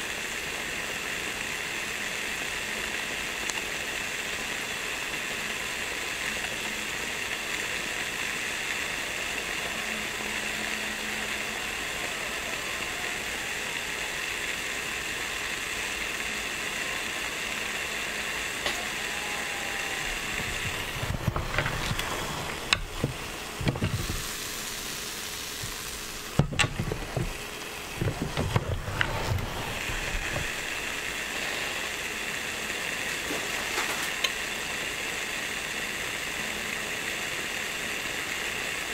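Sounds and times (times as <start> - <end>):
dough sizzling in waffle maker: 0.0 - 38.9.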